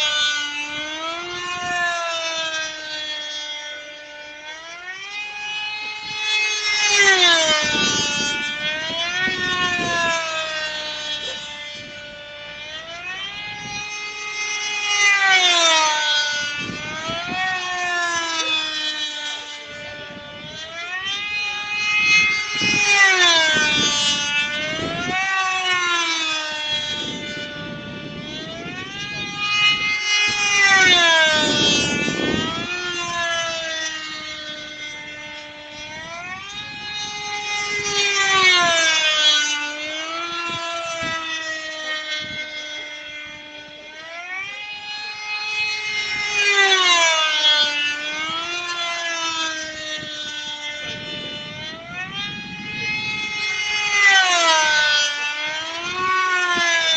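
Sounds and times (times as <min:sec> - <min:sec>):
model airplane engine: 0:00.0 - 0:56.9.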